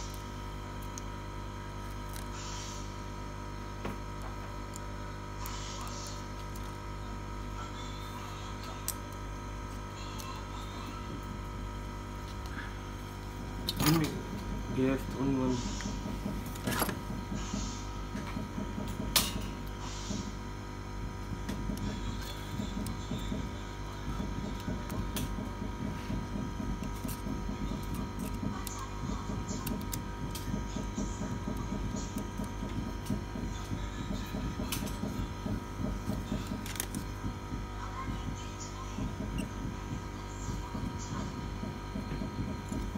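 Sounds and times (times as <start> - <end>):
electrical hum: 0.0 - 42.9.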